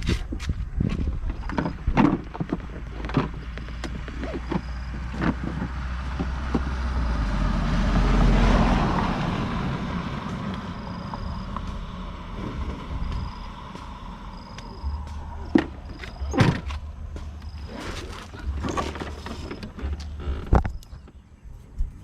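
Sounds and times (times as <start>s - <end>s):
motorbike engine and traffic rumble: 0.0s - 22.0s.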